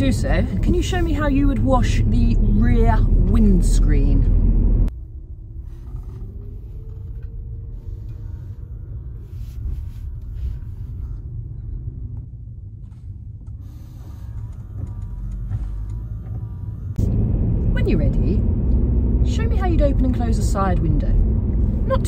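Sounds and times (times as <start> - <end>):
car engine idling: 0.0 - 22.0
faint rising whine: 4.2 - 22.0.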